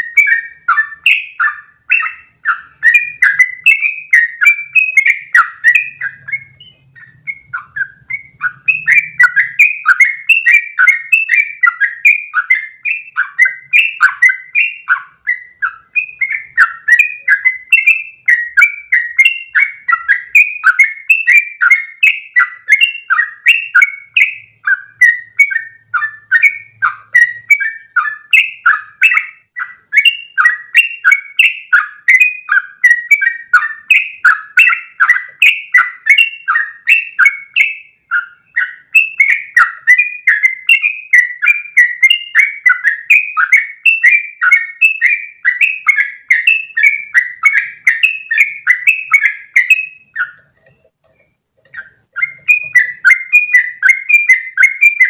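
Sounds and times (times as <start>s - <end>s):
bulbul singing bubbly chirps: 0.0s - 50.6s.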